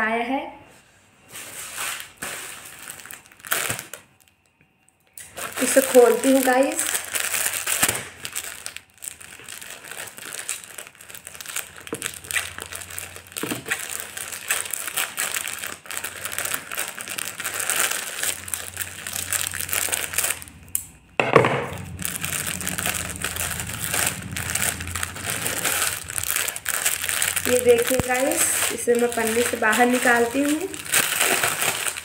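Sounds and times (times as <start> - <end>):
plastic mailer crinkling: 1.6 - 4.4, 5.2 - 32.0.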